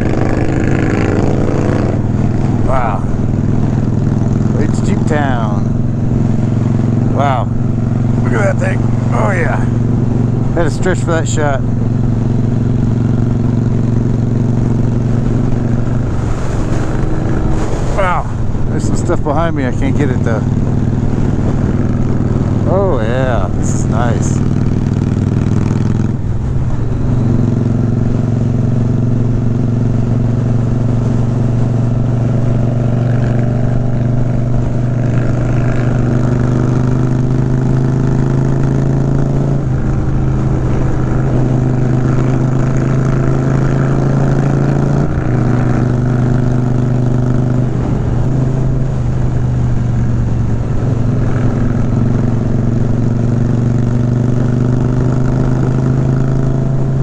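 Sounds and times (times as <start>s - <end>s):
motorcycle engine running: 0.0s - 57.0s
wind and road rush: 0.0s - 57.0s.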